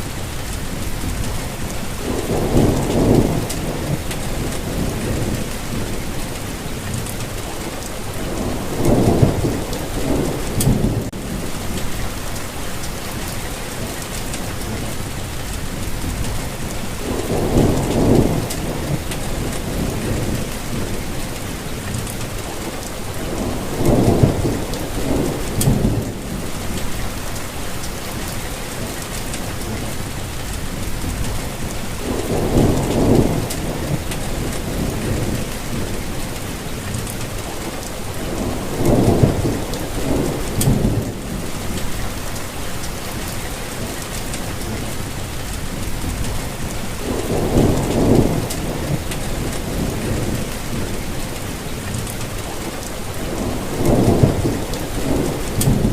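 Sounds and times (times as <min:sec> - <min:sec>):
low thunder rumbles: 0:00.0 - 0:13.4, 0:14.3 - 0:55.9
steady rainfall: 0:00.0 - 0:55.9.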